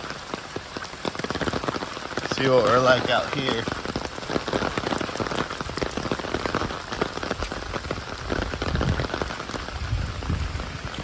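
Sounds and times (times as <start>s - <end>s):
rain drops on hard surfaces: 0.0s - 11.0s.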